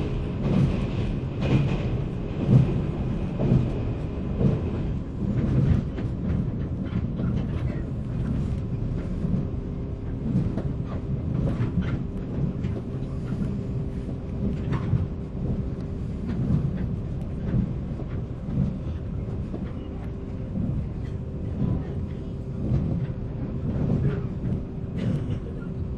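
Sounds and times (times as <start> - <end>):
train interior rumble: 0.0 - 25.9.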